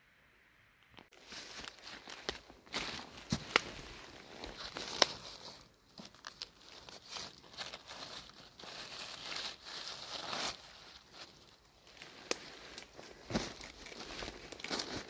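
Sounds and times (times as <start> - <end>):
dry leaves rustling and crinkling: 1.1 - 15.0.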